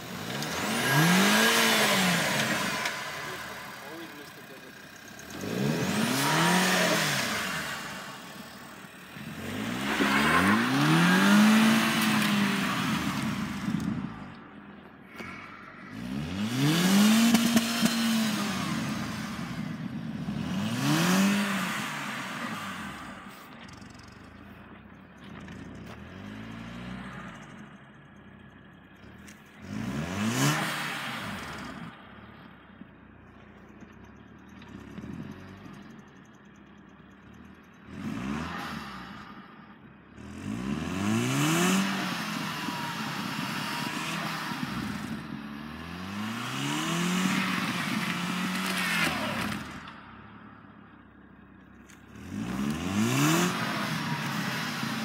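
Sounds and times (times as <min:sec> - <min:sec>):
car engine revving: 0:00.0 - 0:55.0
wheels spinning in snow: 0:00.0 - 0:55.0.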